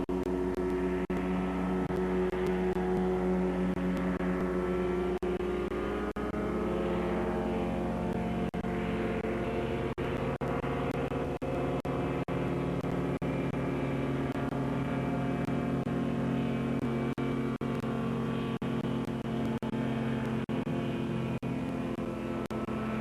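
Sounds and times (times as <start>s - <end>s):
ultralight aircraft engine droning: 0.0s - 23.0s.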